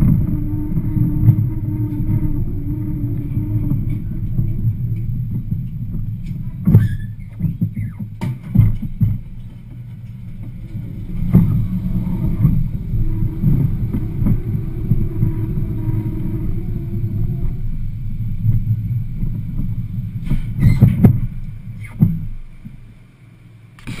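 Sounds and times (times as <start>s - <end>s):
roller coaster wheels rumbling: 0.0s - 24.0s.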